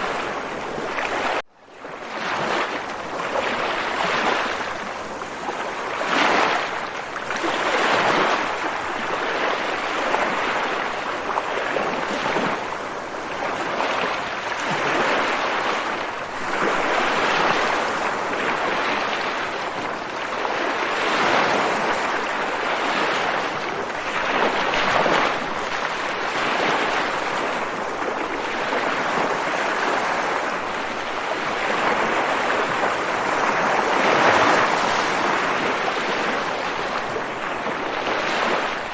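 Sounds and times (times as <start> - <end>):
waves washing in: 0.0 - 38.9.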